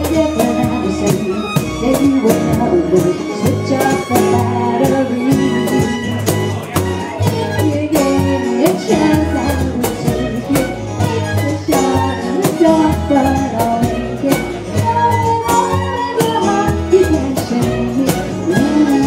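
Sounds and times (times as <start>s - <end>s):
acoustic guitar: 0.0s - 19.0s
bowed fiddle melody: 0.0s - 19.0s.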